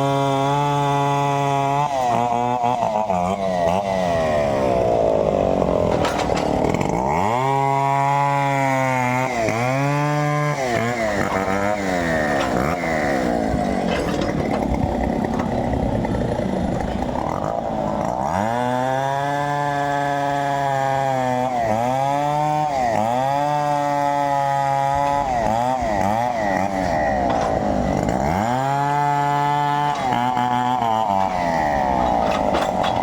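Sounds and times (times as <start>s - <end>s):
chainsaw running at high revs: 0.0s - 33.0s.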